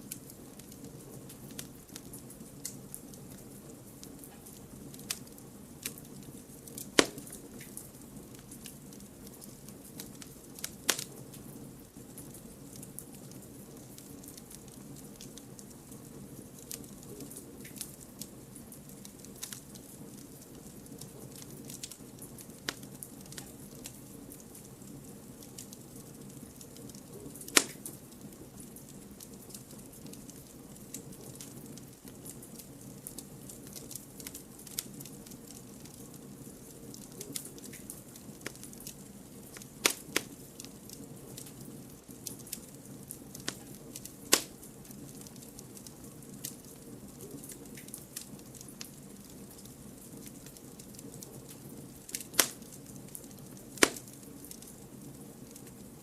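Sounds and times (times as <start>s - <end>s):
campfire crackling and popping: 0.0s - 56.0s
low steady hiss: 0.0s - 56.0s.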